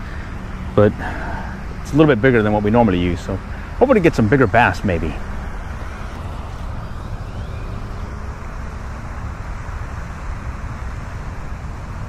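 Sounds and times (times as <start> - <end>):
outdoor low rumble: 0.0 - 12.0.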